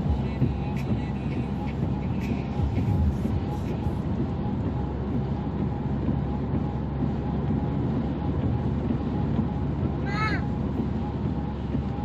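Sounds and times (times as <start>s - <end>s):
car interior road and engine noise: 0.0s - 12.0s.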